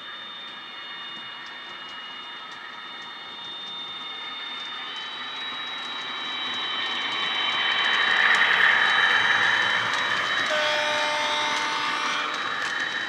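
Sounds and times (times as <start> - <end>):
model locomotive engine noise: 0.0 - 13.0.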